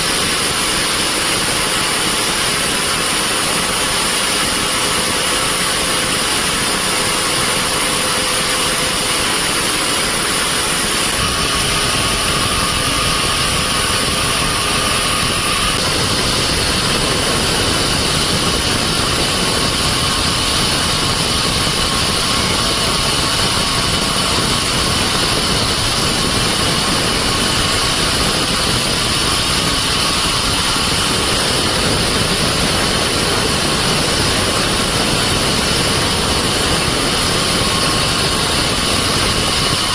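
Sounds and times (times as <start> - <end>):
band saw high whine: 3.1 - 39.9.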